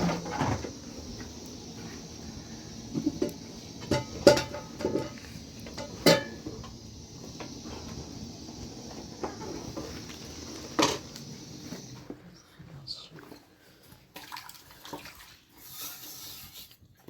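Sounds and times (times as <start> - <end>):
steady background hiss: 0.0 - 13.7.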